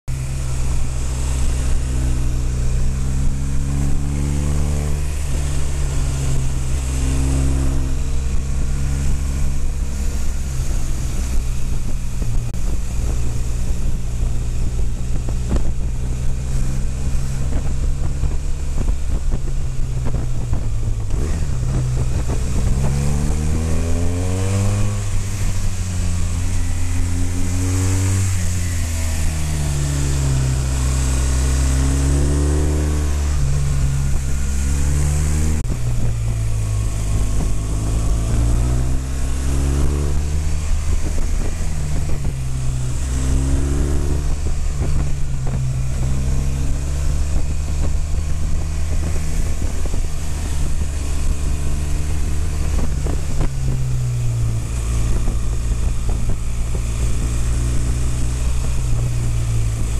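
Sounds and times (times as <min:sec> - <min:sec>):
motorcycle engine accelerating: 0:00.0 - 0:59.9
wind rush on microphone: 0:00.1 - 0:59.9.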